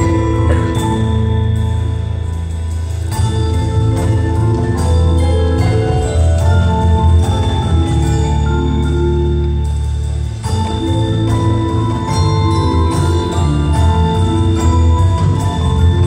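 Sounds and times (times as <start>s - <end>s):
low bass notes: 0.0s - 16.0s
marimbas and vibraphones ringing chords: 0.0s - 16.0s.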